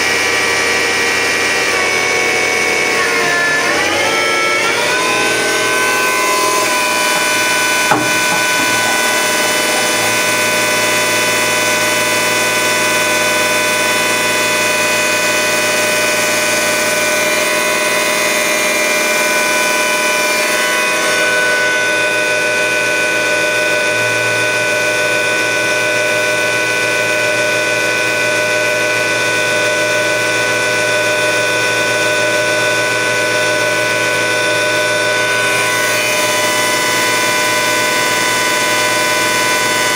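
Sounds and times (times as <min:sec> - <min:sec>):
lathe whine: 0:00.0 - 0:39.9.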